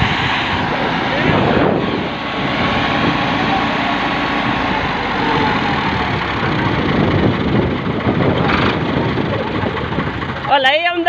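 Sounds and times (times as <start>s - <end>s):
tractor diesel engines straining: 0.0s - 11.0s.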